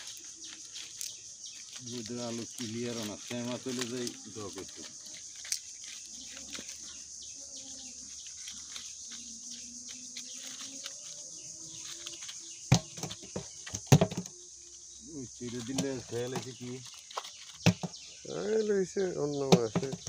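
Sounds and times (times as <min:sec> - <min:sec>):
net and leaves rustling: 0:00.0 - 0:20.0.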